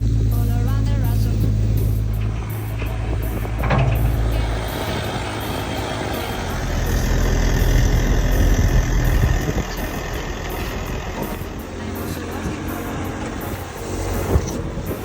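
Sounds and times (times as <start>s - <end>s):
backhoe loader engine running: 0.0s - 15.0s.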